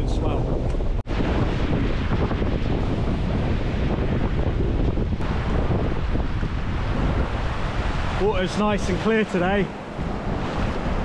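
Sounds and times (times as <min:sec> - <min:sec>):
wind buffeting microphone: 0:00.0 - 0:11.0
waves breaking on beach: 0:01.0 - 0:11.0.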